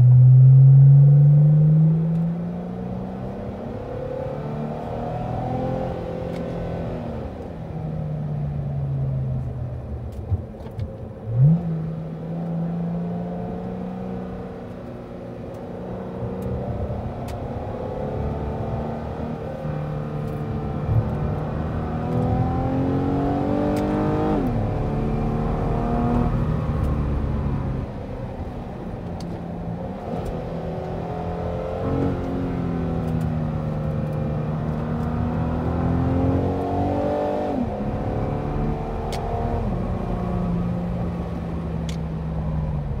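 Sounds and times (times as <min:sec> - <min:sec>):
car exhaust accelerating: 0:00.0 - 0:03.4, 0:08.3 - 0:43.0.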